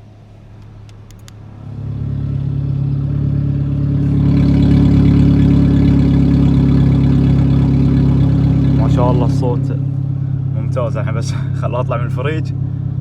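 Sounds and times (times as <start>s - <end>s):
deep open exhaust: 0.0s - 13.0s
pickup engine idling: 0.0s - 13.0s.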